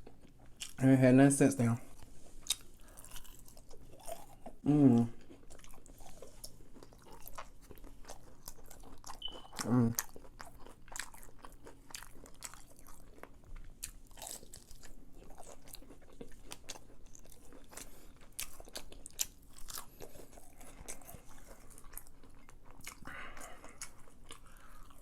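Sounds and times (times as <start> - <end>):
crunchy chewing: 1.8 - 25.0.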